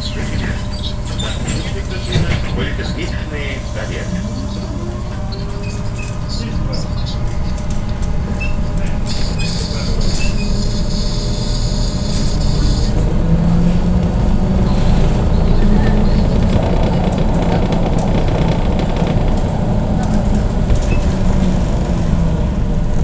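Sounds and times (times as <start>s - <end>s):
bus interior rumble: 0.0s - 23.0s.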